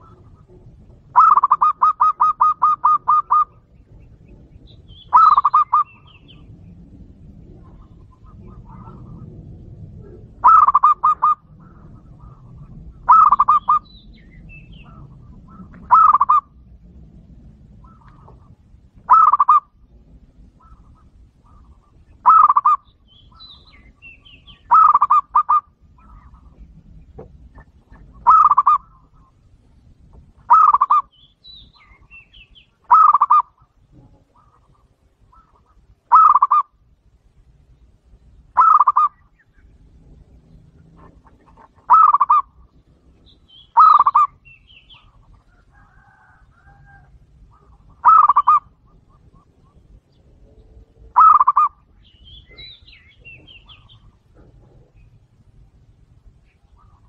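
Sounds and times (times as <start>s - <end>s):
dove cooing: 0.0s - 29.6s, 30.2s - 36.9s, 38.4s - 57.0s.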